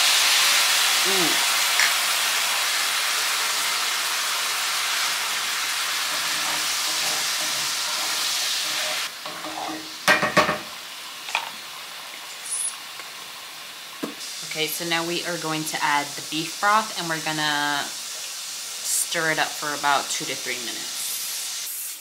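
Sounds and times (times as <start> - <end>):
sizzling in a hot skillet: 0.0 - 22.0.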